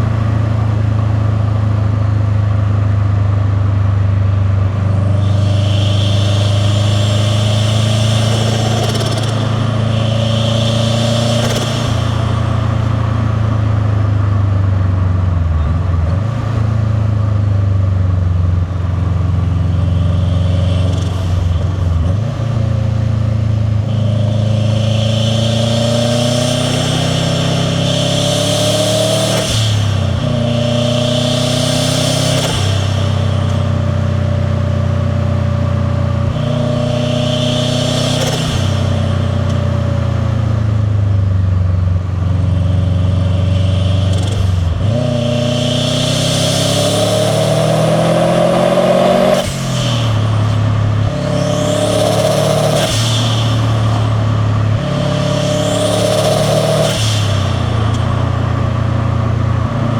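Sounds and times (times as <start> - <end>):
car engine revving: 0.0 - 59.9
turbo and intake rush: 0.0 - 59.9.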